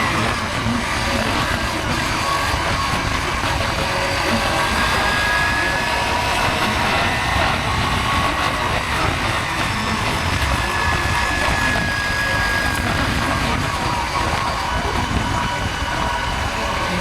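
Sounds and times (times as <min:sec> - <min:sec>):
motorcycle engine drone: 0:00.0 - 0:17.0
wind rushing over microphone: 0:00.0 - 0:17.0.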